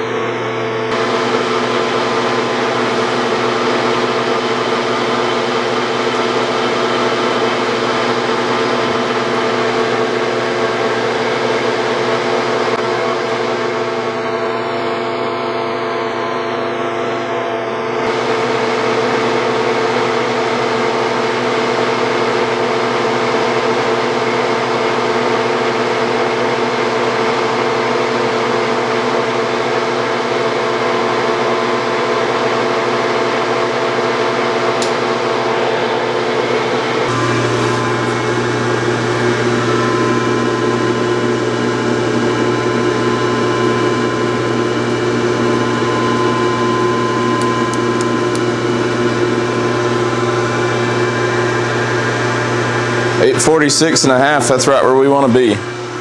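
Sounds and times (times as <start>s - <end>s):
lathe running hum: 0.0s - 56.0s.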